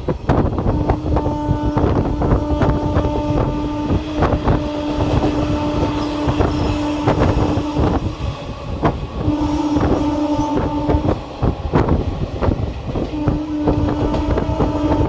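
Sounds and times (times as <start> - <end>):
train horn: 0.4 - 15.0
train wheels clattering over rail joints: 1.8 - 15.0.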